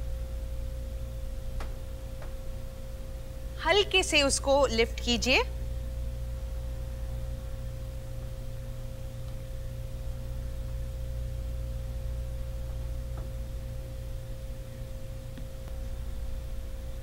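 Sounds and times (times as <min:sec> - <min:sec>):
constant pure tone: 0:00.0 - 0:17.0
electrical hum: 0:00.0 - 0:17.0.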